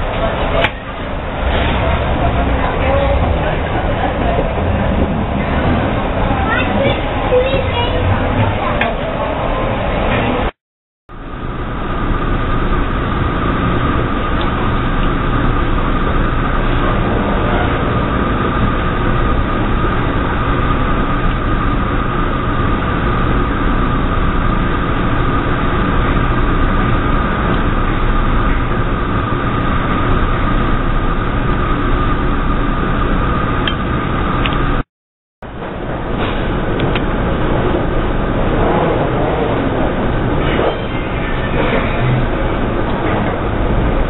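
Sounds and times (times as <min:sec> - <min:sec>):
train mechanical hum: 0:00.0 - 0:10.5, 0:11.1 - 0:34.8, 0:35.4 - 0:44.0
high whine: 0:00.0 - 0:44.0.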